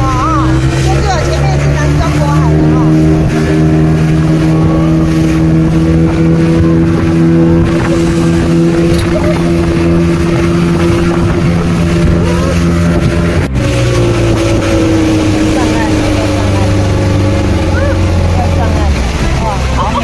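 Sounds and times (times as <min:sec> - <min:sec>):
motorboat engine droning: 0:00.0 - 0:20.0
water noise: 0:00.0 - 0:20.0
wind noise: 0:00.0 - 0:20.0.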